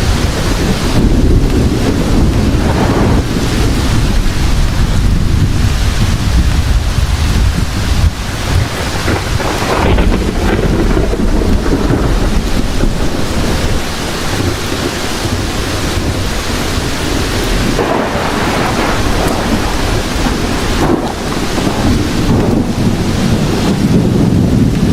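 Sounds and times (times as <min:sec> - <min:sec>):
heavy rain: 0:00.0 - 0:24.9
rumble of thunder: 0:00.0 - 0:24.9.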